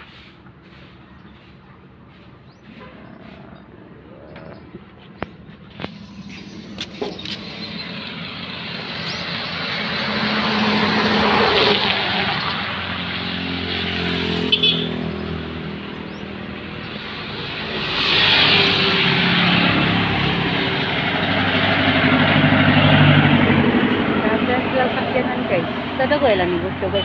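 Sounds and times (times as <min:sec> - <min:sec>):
vehicle approaching: 0:00.0 - 0:27.0
motorcycle passing: 0:02.6 - 0:27.0.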